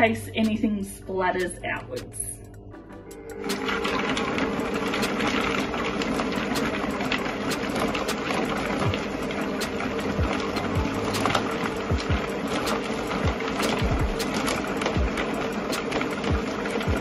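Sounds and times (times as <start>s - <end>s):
blender motor hum: 3.1s - 17.0s.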